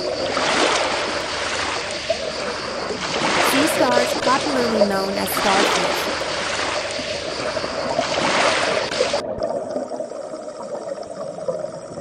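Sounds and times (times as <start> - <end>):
rushing water: 0.0 - 10.5
dull quiet water ambience: 0.0 - 12.0.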